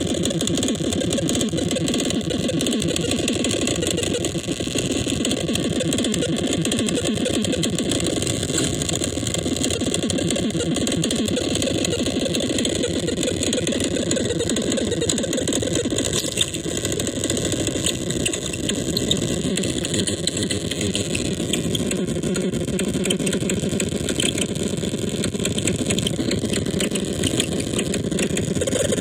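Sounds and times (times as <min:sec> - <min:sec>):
crackling hiss and clicks: 0:00.0 - 0:29.0
fast-pulsing low synthesizer buzz: 0:00.0 - 0:29.0.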